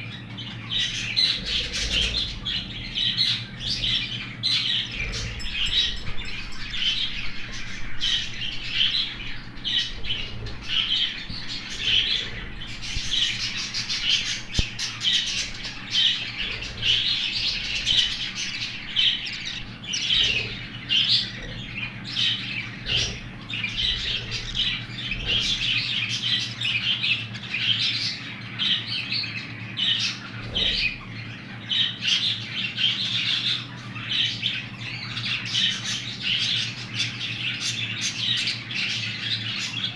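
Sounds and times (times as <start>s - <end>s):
bird chicks squawking: 0.0s - 39.9s.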